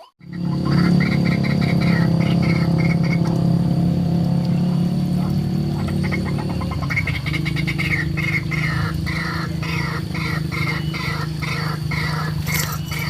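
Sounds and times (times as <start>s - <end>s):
rhythmic animal calls: 0.0s - 3.7s, 4.6s - 13.0s
steady low hum: 0.2s - 13.0s.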